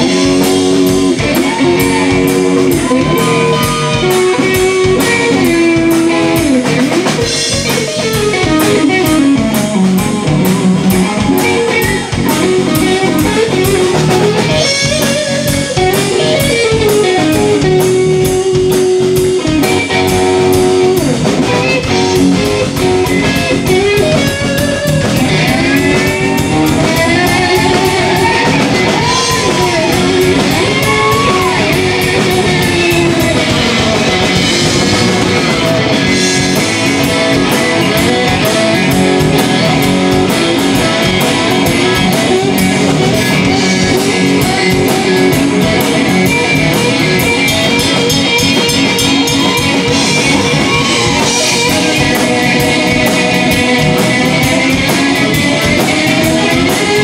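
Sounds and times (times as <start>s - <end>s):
bass guitar: 0.0s - 57.0s
drums: 0.0s - 57.0s
electric guitar with bending notes: 0.0s - 57.0s.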